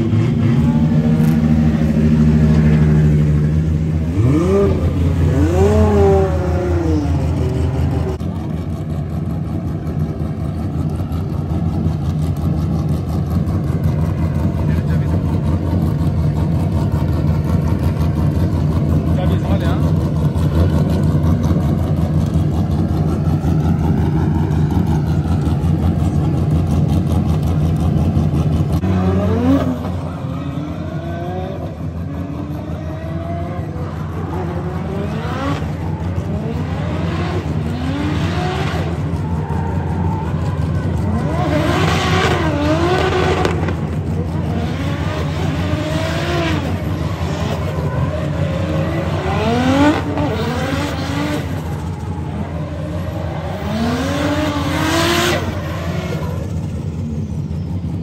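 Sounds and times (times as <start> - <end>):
car engine revving: 0.0 - 58.0
car engines idling: 0.0 - 58.0.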